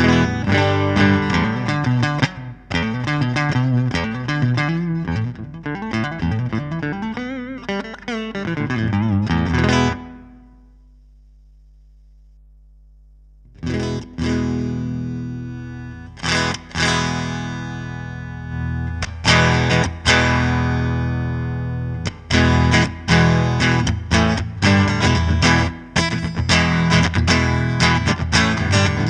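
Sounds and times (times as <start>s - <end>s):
electric guitar chords ringing: 0.0s - 10.7s, 13.6s - 29.0s
faint amp hum: 0.0s - 29.0s.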